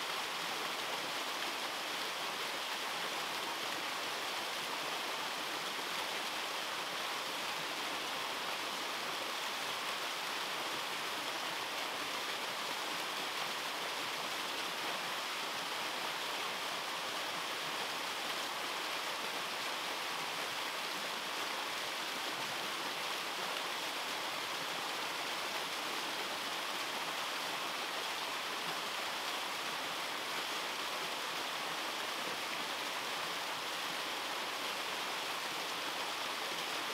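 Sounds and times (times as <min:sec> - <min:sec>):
waterfall rushing and splashing: 0:00.0 - 0:36.9.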